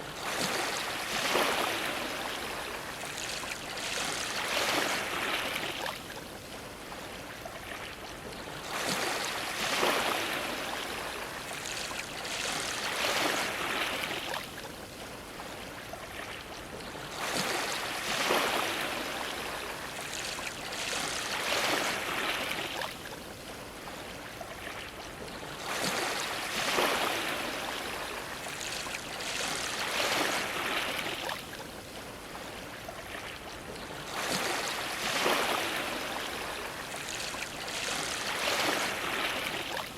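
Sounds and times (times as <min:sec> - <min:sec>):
sea waves washing against dock: 0:00.0 - 0:15.8, 0:16.9 - 0:39.9.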